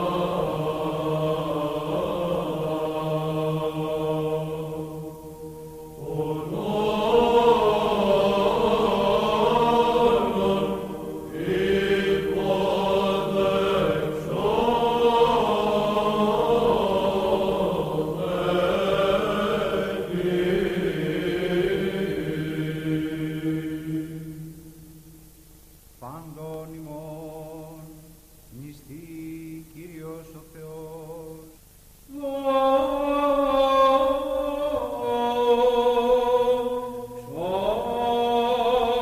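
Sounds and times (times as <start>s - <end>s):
chant singing: 0.0s - 25.1s, 26.0s - 39.0s
low held vocal drone: 0.0s - 25.2s, 26.0s - 39.0s.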